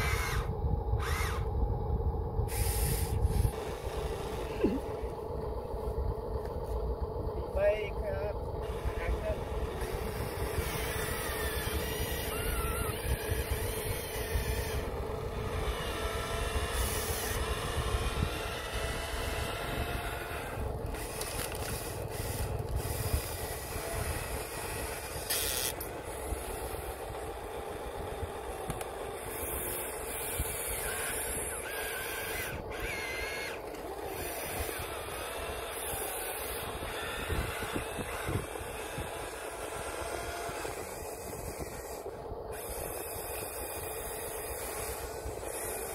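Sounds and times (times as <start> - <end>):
small electric motors whirring: 0.0 - 45.9.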